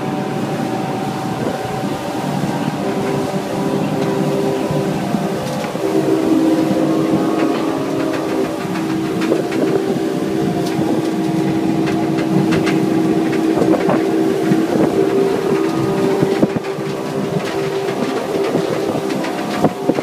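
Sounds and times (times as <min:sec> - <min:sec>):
boat engine droning: 0:00.0 - 0:20.0
water rushing in wake: 0:00.0 - 0:20.0.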